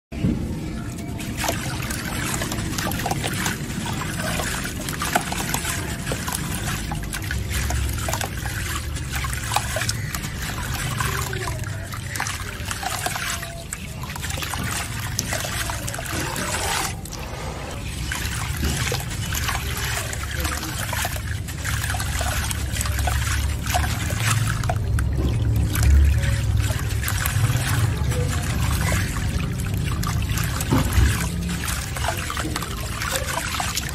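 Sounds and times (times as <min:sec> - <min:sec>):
muddy water splashing into basin: 0:00.2 - 0:33.9.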